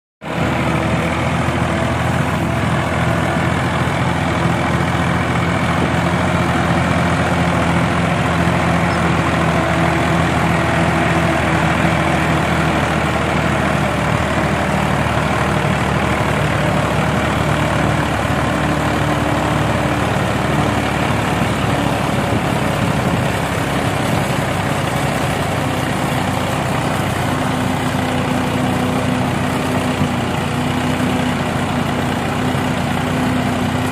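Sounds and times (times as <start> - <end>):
tractor engine running: 0.2 - 33.9.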